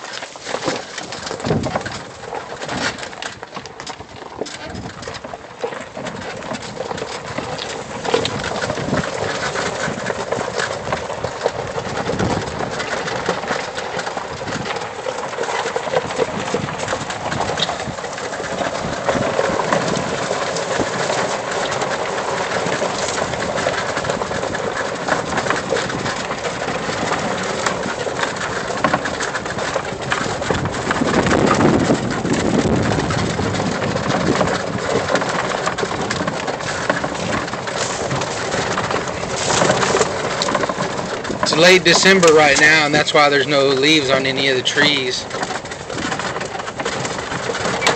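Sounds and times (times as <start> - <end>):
golf cart rumbling and rattling: 0.0 - 47.9
tires crunching over gravel: 0.0 - 47.9.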